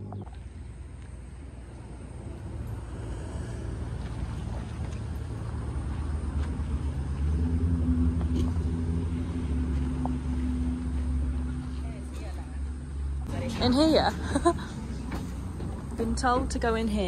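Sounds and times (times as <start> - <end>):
steady low hum: 0.0 - 17.0
vehicle engine running: 0.0 - 17.0.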